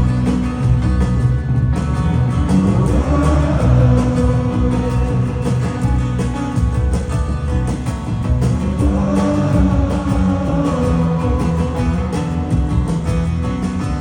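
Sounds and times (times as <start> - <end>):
electric guitar: 0.0 - 14.0
live rock band instrumental: 0.0 - 14.0.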